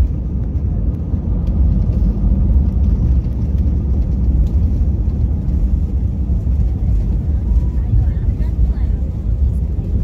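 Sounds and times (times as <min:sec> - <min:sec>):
airplane cabin rumble on landing: 0:00.0 - 0:10.0.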